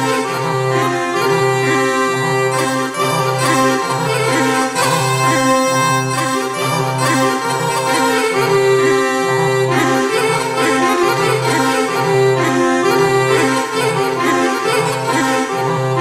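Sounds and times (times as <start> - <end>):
accordion tune: 0.0 - 16.0.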